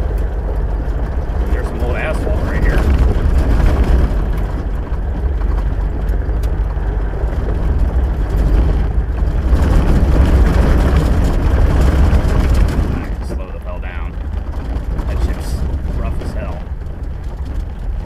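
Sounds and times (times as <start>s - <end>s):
vehicle driving off-road: 0.0s - 18.0s.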